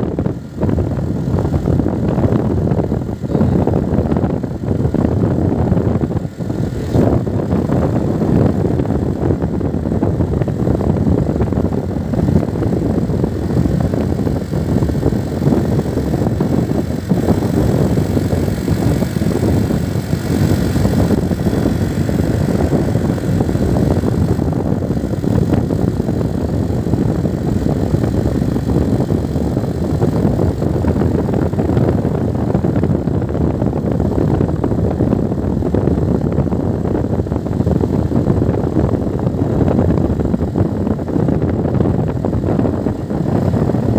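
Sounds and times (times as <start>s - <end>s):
vehicle engine and road noise: 0.0s - 43.9s
wind rumbling on microphone: 0.0s - 43.9s.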